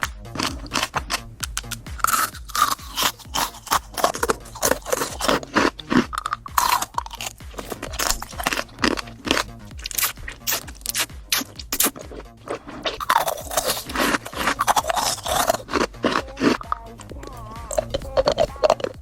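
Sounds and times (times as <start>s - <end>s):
chewing crunchy food: 0.0s - 19.0s.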